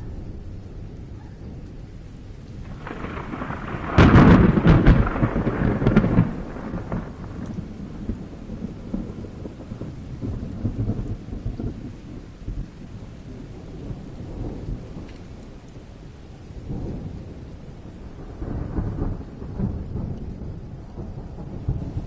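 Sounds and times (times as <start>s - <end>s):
steady rain: 0.0s - 22.0s
thunder rumbling and cracking: 0.0s - 22.0s.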